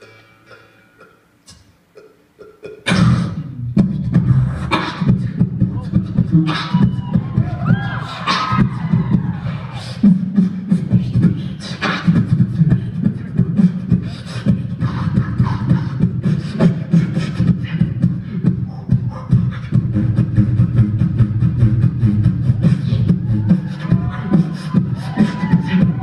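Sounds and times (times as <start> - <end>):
beatboxing into a microphone: 0.0 - 26.0.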